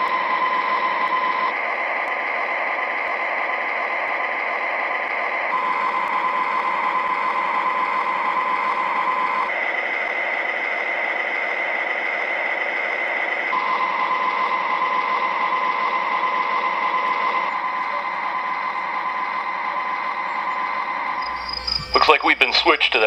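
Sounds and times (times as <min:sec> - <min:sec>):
model locomotive diesel engine sound: 0:00.0 - 0:23.0.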